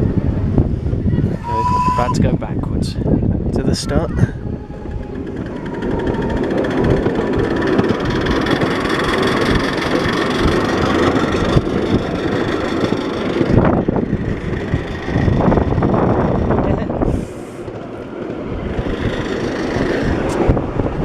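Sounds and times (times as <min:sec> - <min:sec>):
miniature steam train rumbling: 0:00.0 - 0:02.4, 0:03.2 - 0:21.0.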